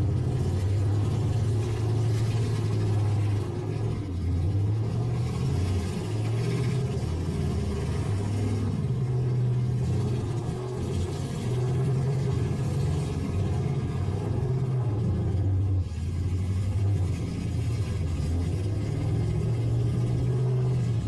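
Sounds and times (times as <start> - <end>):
truck engines revving: 0.0 - 21.0.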